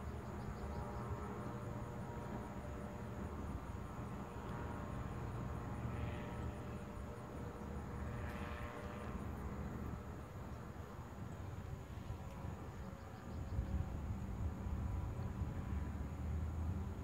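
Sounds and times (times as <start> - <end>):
distant engine and propeller drone: 0.0 - 17.0.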